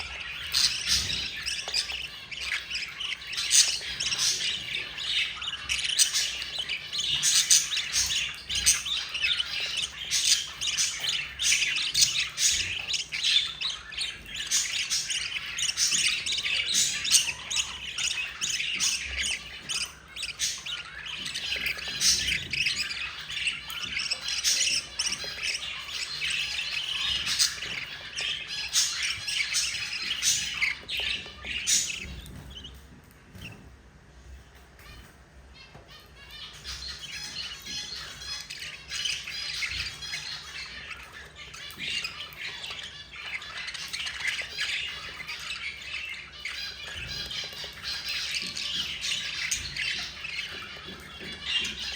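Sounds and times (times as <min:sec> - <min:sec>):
budgerigar chicks squawking: 0:00.0 - 0:33.7, 0:34.6 - 0:51.9.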